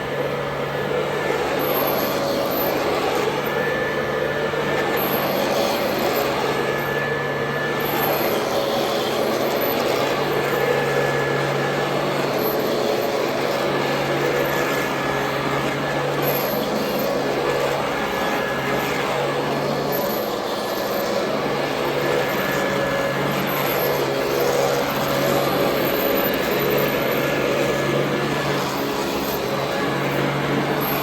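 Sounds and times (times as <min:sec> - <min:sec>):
upright vacuum cleaner running: 0:00.0 - 0:31.0.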